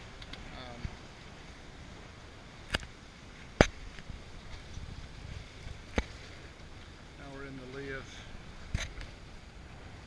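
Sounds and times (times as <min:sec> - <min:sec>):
water rushing past boat: 0:00.0 - 0:10.0.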